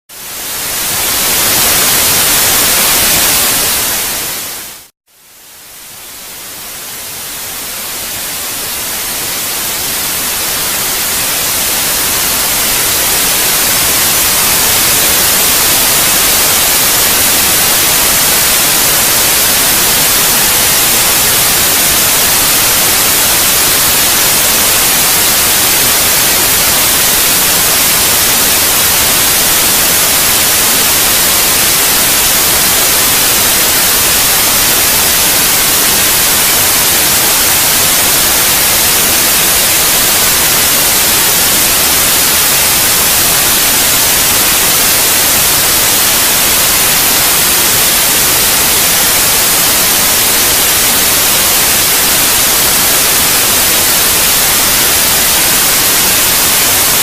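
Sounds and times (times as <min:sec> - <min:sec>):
white noise hiss: 0:00.2 - 0:57.0.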